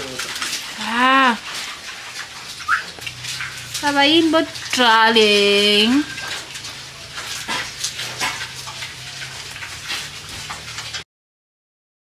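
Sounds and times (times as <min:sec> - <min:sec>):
piglets shuffling and snuffling: 0:00.0 - 0:11.0.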